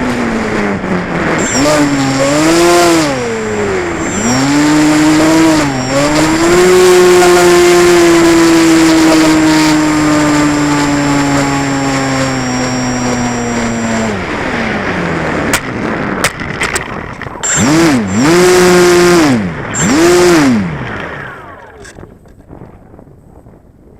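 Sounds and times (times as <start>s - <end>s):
model airplane engine running: 0.0s - 15.4s, 16.6s - 22.4s
wind noise: 0.0s - 23.9s.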